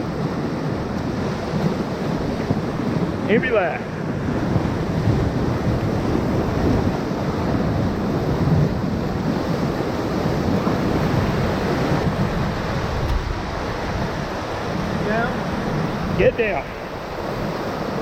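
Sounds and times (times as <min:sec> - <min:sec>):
whitewater rapids roaring: 0:00.0 - 0:18.0
wind buffeting microphone: 0:00.0 - 0:18.0.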